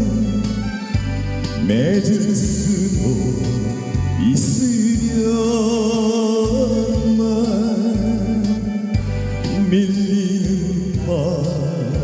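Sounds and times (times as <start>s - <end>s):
instrumental backing track: 0.0s - 12.0s
person singing a ballad: 0.0s - 12.0s.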